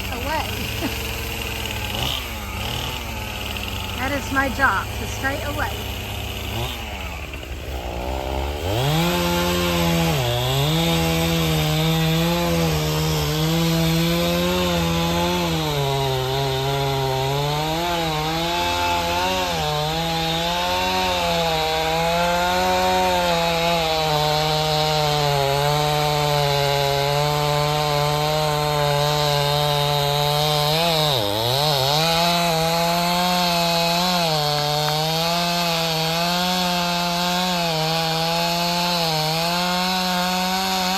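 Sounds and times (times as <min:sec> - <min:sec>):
chainsaw cutting a tree limb: 0:00.0 - 0:40.9.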